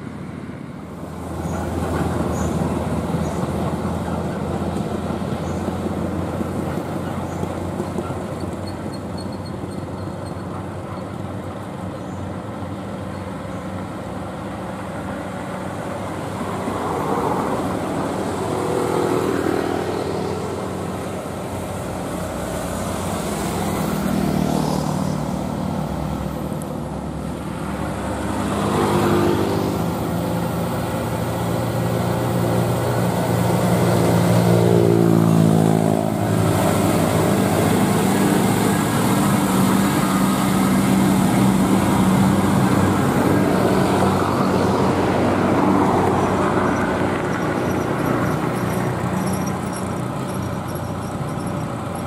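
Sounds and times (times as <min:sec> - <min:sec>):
dump truck diesel engines: 0:00.0 - 0:52.0
traffic noise: 0:00.0 - 0:52.0.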